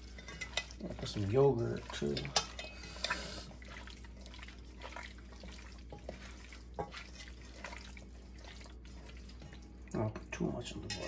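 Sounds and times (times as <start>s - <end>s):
wet squelching of meat mixed by hand: 0.0s - 10.1s.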